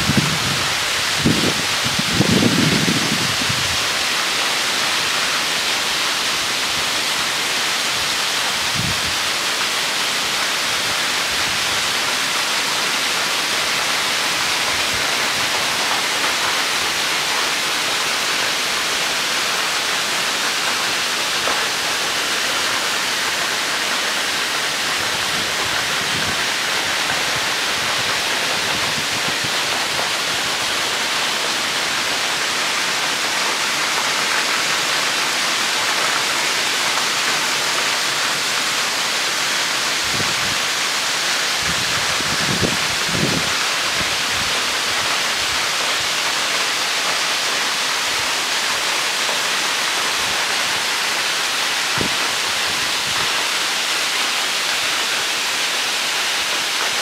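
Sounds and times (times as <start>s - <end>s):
waterfall splashing onto rocks: 0.0s - 57.0s.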